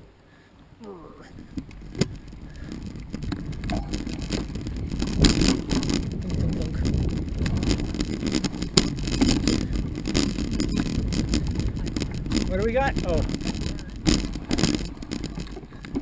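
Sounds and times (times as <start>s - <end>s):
bike tyres rumbling on dirt: 0.0s - 16.0s
bike rattling over bumps: 0.7s - 16.0s.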